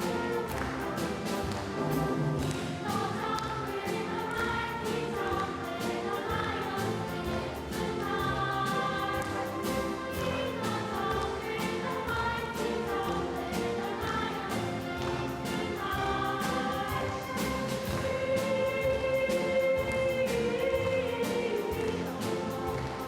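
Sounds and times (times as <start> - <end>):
children's choir singing: 0.0 - 23.0
orchestral accompaniment: 0.0 - 23.0.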